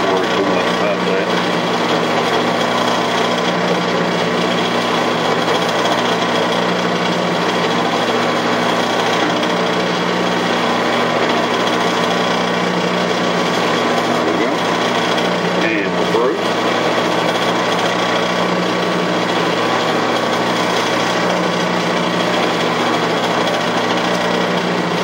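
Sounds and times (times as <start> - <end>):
metal lathe humming: 0.0 - 25.0.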